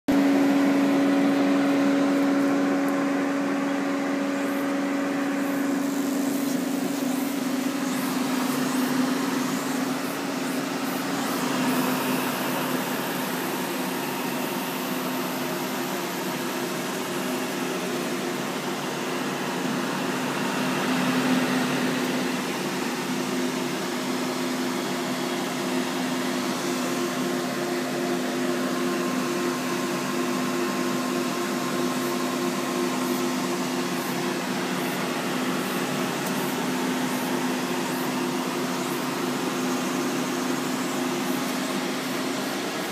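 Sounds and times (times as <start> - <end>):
cooling fans whirring: 0.1 - 42.9.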